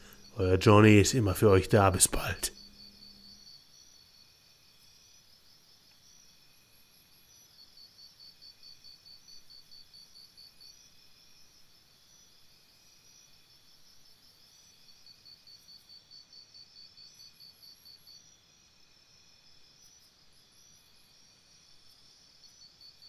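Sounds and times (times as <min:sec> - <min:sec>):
background hiss: 0:00.0 - 0:23.0
insect chirping: 0:00.0 - 0:23.0.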